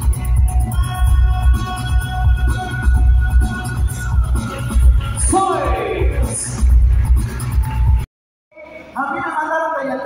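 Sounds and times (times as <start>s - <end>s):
electronic dance music over loudspeakers: 0.0s - 10.0s.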